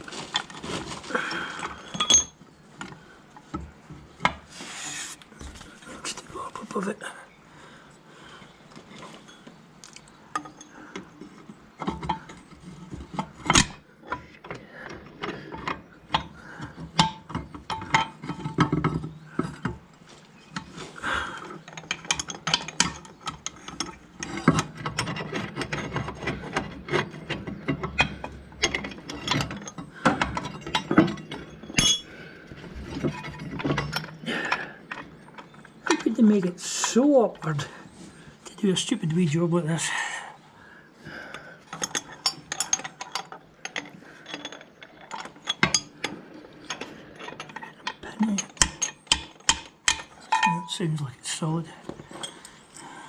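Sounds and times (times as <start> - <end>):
metal tools clicking and scraping: 1.3 - 3.6, 8.8 - 39.2, 41.3 - 53.0.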